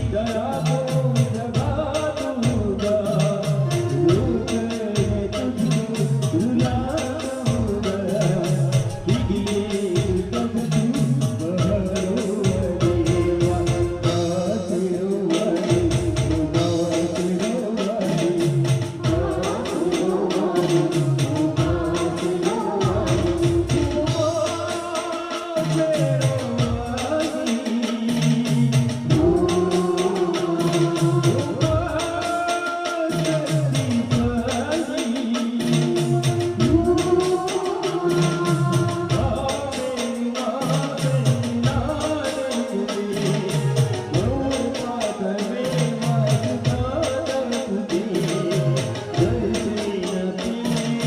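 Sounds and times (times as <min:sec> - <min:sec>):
fast percussion beat: 0:00.0 - 0:51.0
person singing: 0:00.0 - 0:51.0
sliding melody line: 0:00.0 - 0:51.0.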